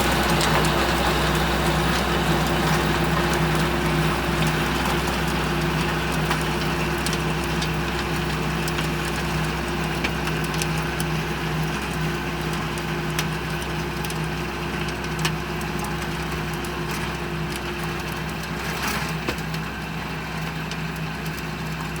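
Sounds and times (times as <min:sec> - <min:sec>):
rotary tiller engine running: 0:00.0 - 0:22.0.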